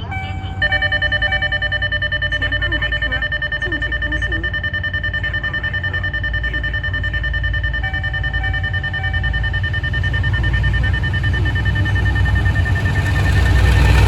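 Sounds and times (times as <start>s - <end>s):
diesel locomotive engine rumble: 0.0s - 14.0s
level crossing alarm tone: 0.0s - 14.0s
short beeps: 0.0s - 14.0s.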